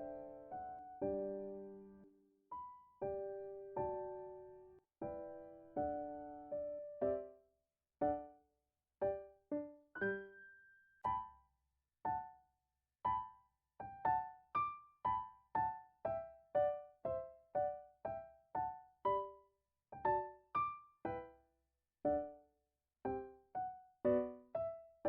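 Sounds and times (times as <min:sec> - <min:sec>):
solo piano melody: 0:00.0 - 0:07.4, 0:08.0 - 0:08.4, 0:09.0 - 0:11.5, 0:12.1 - 0:12.4, 0:13.0 - 0:21.4, 0:22.1 - 0:25.0.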